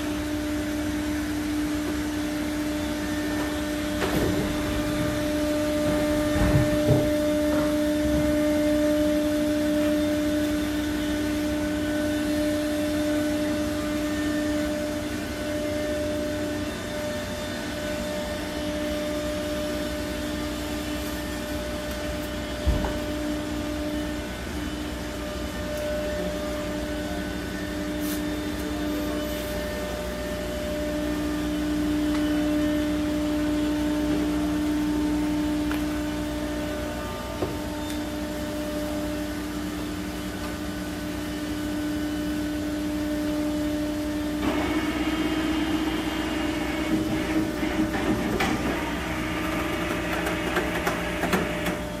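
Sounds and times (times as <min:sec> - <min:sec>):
press machine hum and whine: 0:00.0 - 0:52.0.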